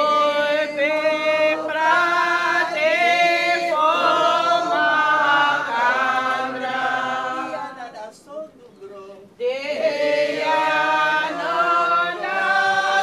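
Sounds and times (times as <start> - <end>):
women singing unaccompanied: 0.0 - 8.0, 8.8 - 13.0.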